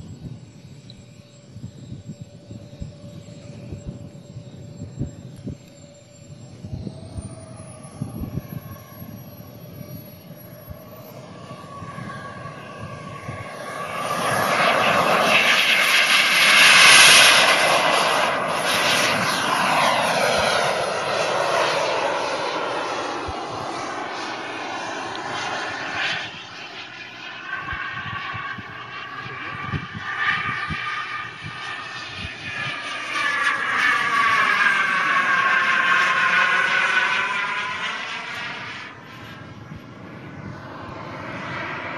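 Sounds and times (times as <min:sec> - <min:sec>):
model jet turbine whine: 0:00.0 - 0:41.9.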